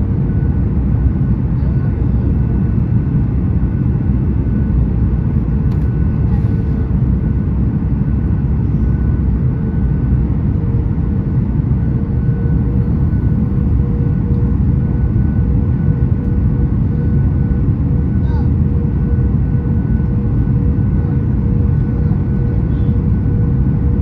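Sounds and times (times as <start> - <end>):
aircraft cabin rumble: 0.0 - 24.0
jet engine hum: 0.0 - 24.0.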